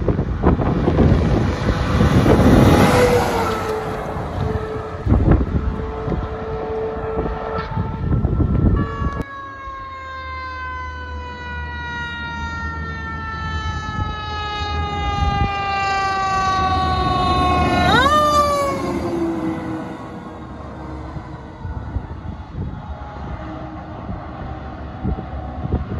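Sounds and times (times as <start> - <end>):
wind noise on microphone: 0.0 - 9.9, 12.6 - 25.9
fire engine rumble: 0.0 - 25.9
fire truck siren: 0.0 - 25.9.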